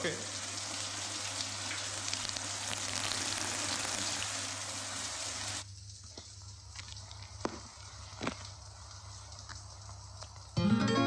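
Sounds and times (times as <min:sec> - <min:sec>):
shower water spraying: 0:00.0 - 0:10.6.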